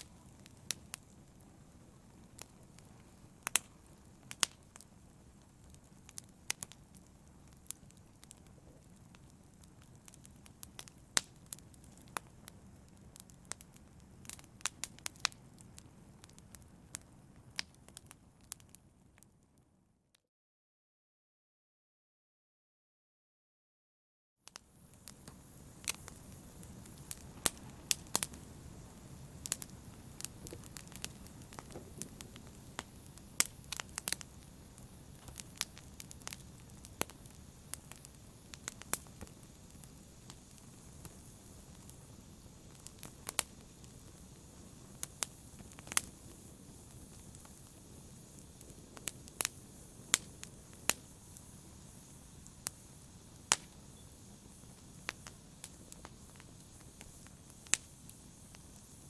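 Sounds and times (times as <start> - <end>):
low hiss of flames: 0.0 - 19.6, 24.5 - 59.0
fire crackling and popping: 0.0 - 19.8, 24.4 - 59.0.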